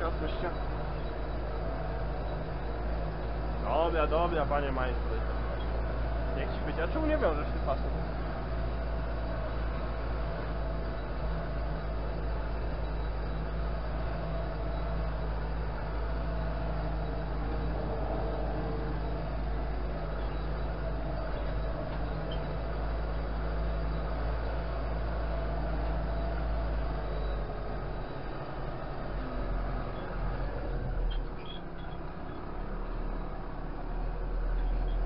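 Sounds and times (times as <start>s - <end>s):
tractor engine droning: 0.0s - 35.0s.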